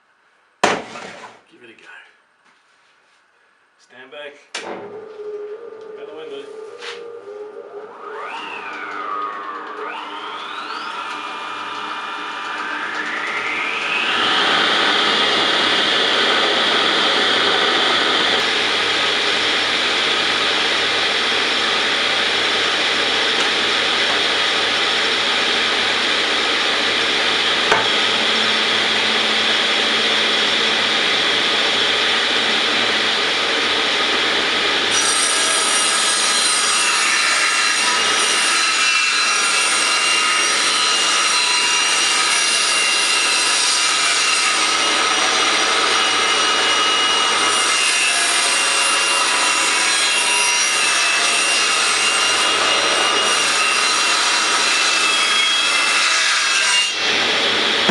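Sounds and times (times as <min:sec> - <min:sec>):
power tool cutting wood: 0:07.8 - 0:57.9.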